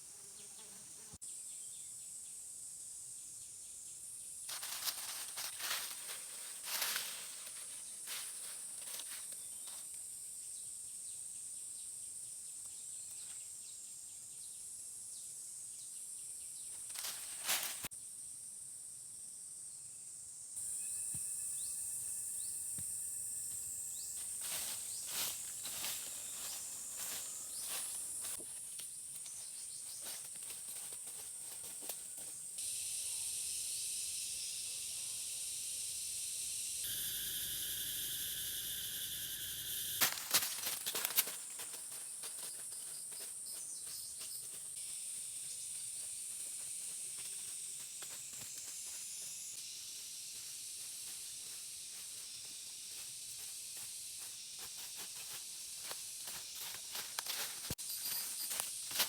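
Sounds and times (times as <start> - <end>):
high-pitched hiss: 0.8 - 11.6, 16.4 - 30.3, 31.2 - 59.0.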